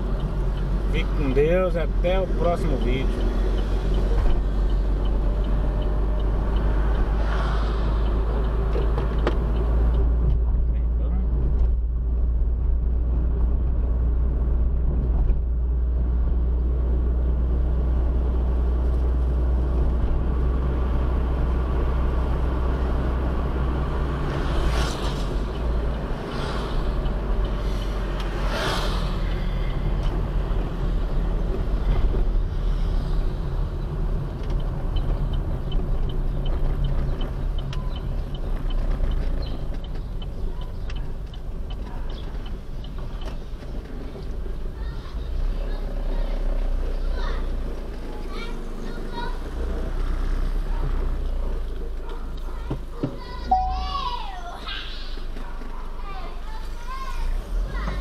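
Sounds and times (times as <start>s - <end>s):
vehicles passing whoosh: 0.0s - 53.5s
car engine and road noise: 0.0s - 58.0s.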